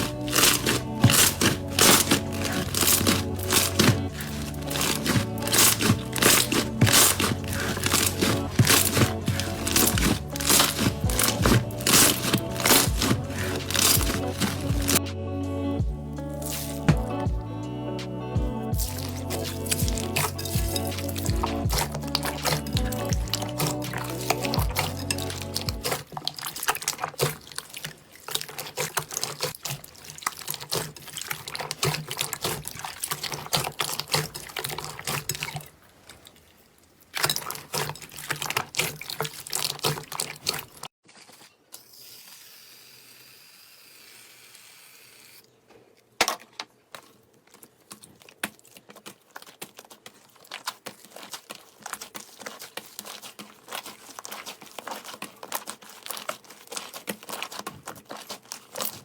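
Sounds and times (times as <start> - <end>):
slime squishing by hand: 0.0 - 15.1, 16.2 - 17.5, 18.7 - 41.4, 46.4 - 59.0.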